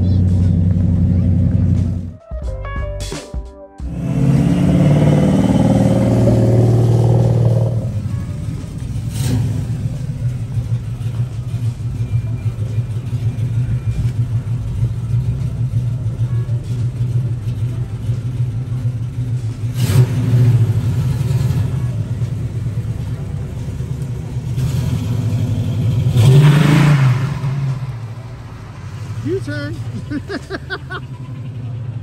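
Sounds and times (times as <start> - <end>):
car engine idling: 0.0 - 2.2, 3.8 - 26.7, 27.3 - 32.0.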